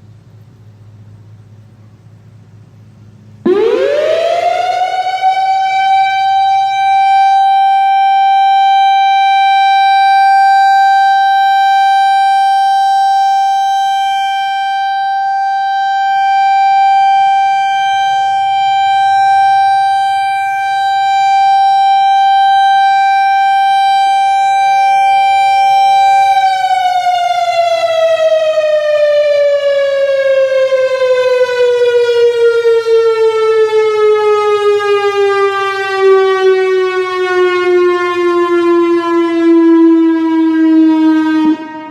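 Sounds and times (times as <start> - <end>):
warning siren tone: 3.4 - 41.9.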